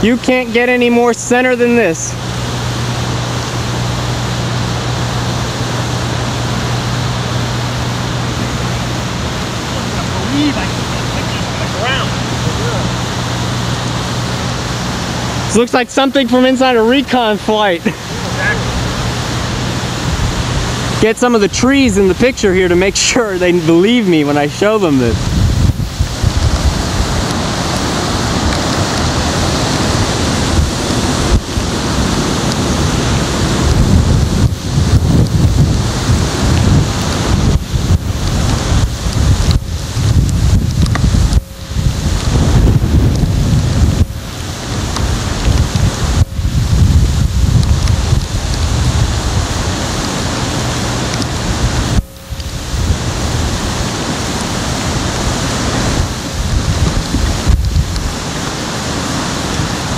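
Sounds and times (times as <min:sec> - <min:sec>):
wind roaring over microphone: 0:00.0 - 0:59.9.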